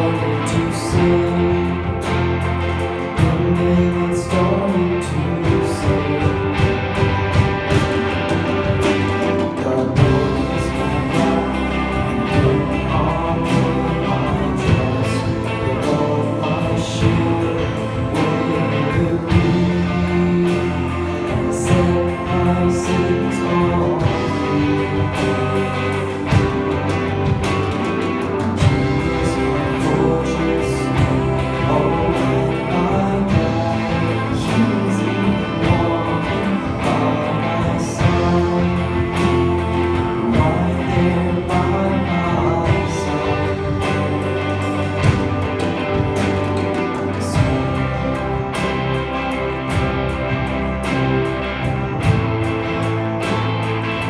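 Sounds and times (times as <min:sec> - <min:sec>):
drum and cymbal hits: 0:00.0 - 0:54.0
gospel band playing: 0:00.0 - 0:54.0
people singing: 0:00.0 - 0:54.0.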